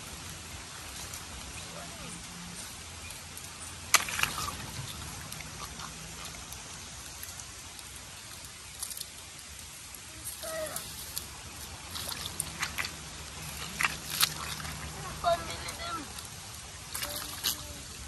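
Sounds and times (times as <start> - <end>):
steady watery hiss: 0.0 - 18.0
water trickling: 0.0 - 18.0
hands squelching in wet mud: 0.1 - 18.0.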